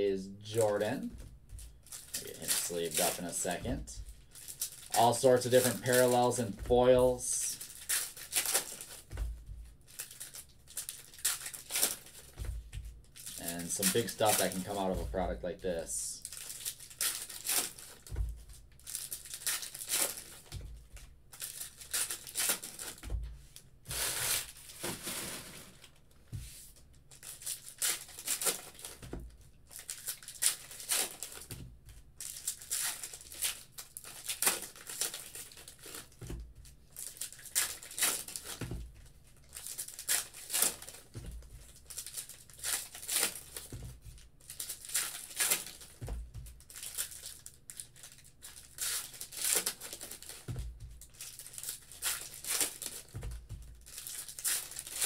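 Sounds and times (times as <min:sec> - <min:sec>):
cards shuffling: 0:00.4 - 0:09.3, 0:09.9 - 0:31.6, 0:32.2 - 0:36.4, 0:37.0 - 0:55.0
foil wrappers tearing and crinkling: 0:01.8 - 0:09.1, 0:09.9 - 0:12.4, 0:13.1 - 0:15.0, 0:15.7 - 0:18.1, 0:18.8 - 0:20.5, 0:21.3 - 0:23.0, 0:23.9 - 0:26.0, 0:27.1 - 0:29.0, 0:29.7 - 0:31.5, 0:32.2 - 0:36.2, 0:36.9 - 0:38.6, 0:39.3 - 0:46.0, 0:46.6 - 0:55.0.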